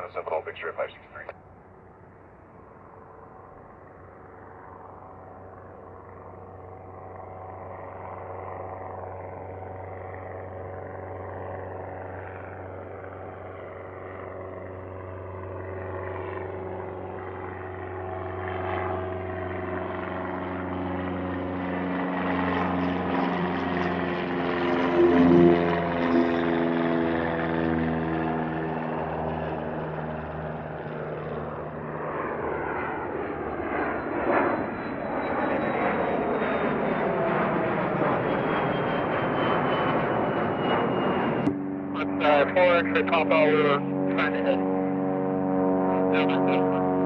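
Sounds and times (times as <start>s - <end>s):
propeller airplane engine droning: 0.0s - 47.0s.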